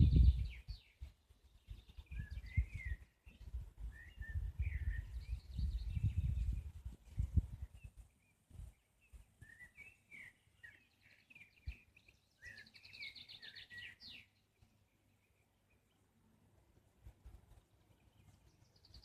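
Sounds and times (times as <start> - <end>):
small songbird singing: 0.0 - 16.2, 17.5 - 19.0.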